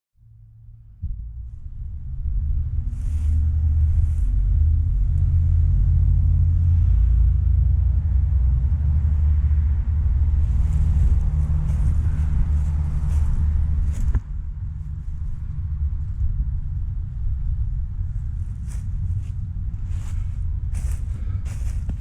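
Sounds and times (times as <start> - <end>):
low rumble: 0.2 - 22.0.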